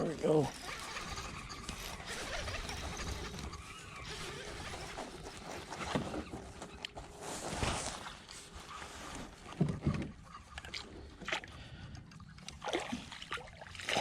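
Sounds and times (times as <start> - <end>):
water sloshing and splashing: 0.6 - 14.0.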